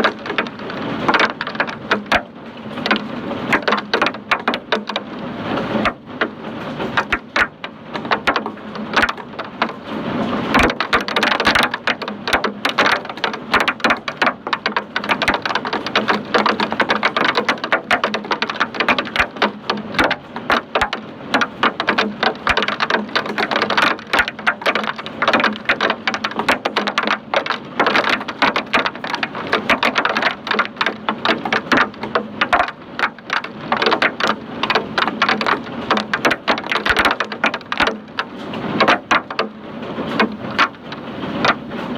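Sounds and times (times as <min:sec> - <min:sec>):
hailstones clattering: 0:00.0 - 0:41.9.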